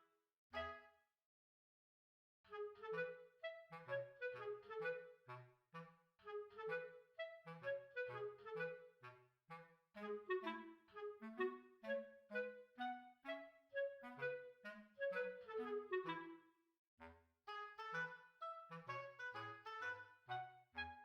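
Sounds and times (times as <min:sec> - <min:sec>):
bouncy woodwind tune: 0:00.6 - 0:01.0, 0:02.5 - 0:16.6, 0:17.5 - 0:21.0.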